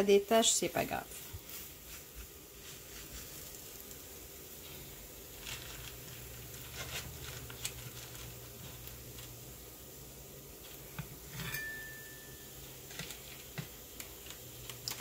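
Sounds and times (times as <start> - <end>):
dough sizzling in a grill pan: 0.0 - 15.0
low steady hum: 0.0 - 15.0.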